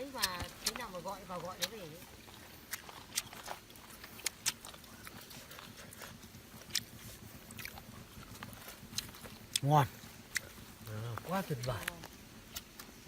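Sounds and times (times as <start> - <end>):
sharp eating clicks and taps: 0.0 - 13.0.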